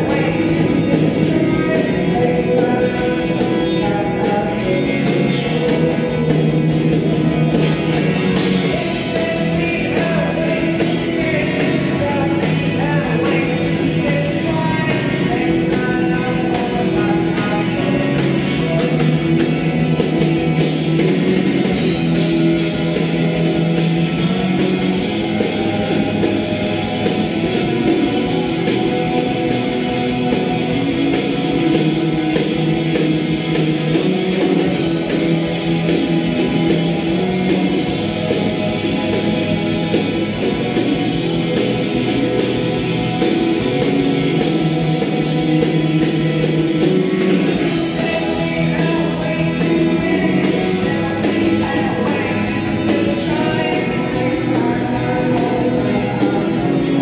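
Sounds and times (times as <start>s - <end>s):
drum kit: 0.0s - 57.0s
electric guitars: 0.0s - 57.0s
keyboards: 0.0s - 57.0s
person singing: 0.0s - 57.0s.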